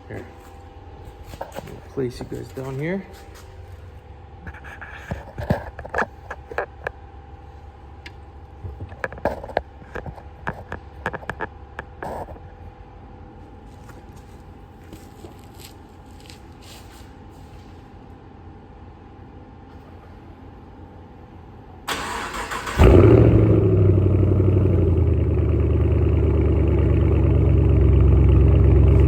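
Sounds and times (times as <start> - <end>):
steady low hum: 0.0 - 21.9, 22.7 - 29.0.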